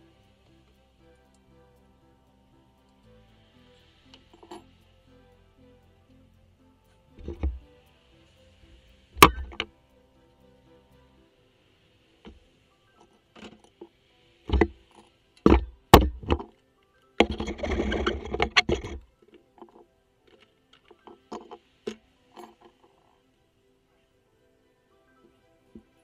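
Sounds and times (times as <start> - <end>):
quiet background music: 0.0 - 26.0.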